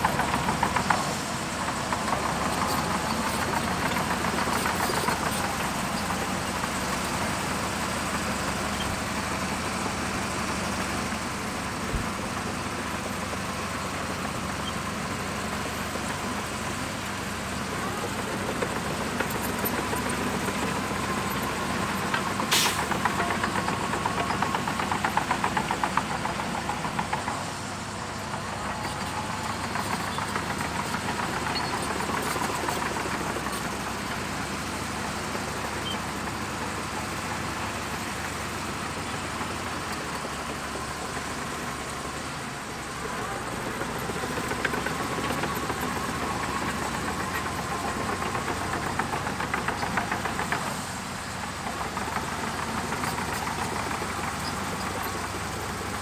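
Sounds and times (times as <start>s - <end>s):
bulldozer diesel engine clattering: 0.0s - 56.0s.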